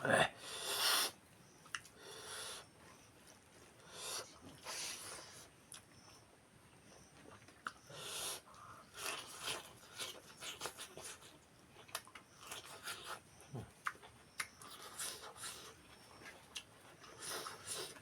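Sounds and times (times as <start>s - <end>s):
chewing and smacking mouth sounds: 1.6s - 2.0s, 2.8s - 6.4s, 7.1s - 18.0s.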